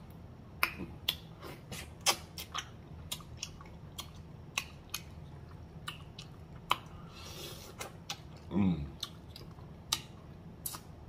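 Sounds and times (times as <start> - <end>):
chewing meat: 0.6 - 10.9.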